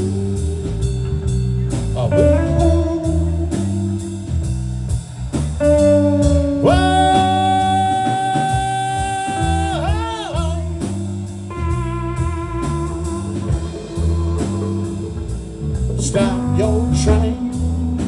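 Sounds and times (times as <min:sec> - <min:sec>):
live blues band playing: 0:00.0 - 0:18.0.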